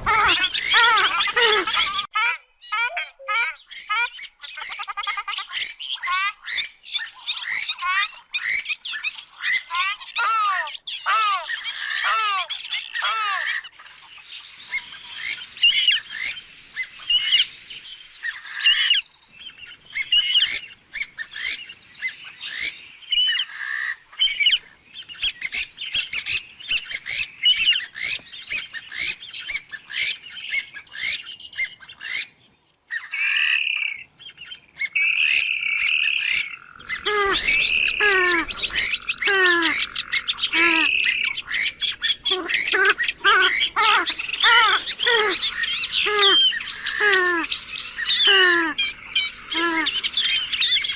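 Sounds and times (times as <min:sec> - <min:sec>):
birds chattering calls: 0:00.0 - 0:50.9.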